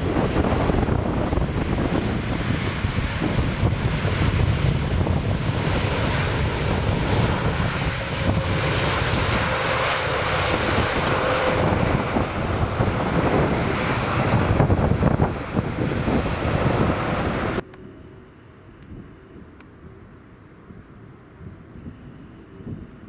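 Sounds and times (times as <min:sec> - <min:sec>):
wind buffeting microphone: 0:00.0 - 0:17.6, 0:18.8 - 0:23.0
jet engines rushing: 0:00.0 - 0:23.0.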